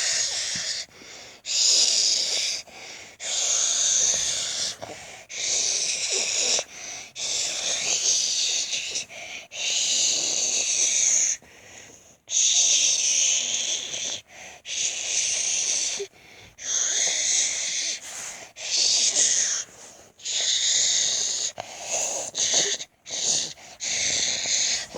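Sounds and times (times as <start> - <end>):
breathy wheezing hiss: 0.0 - 11.1, 13.4 - 24.9.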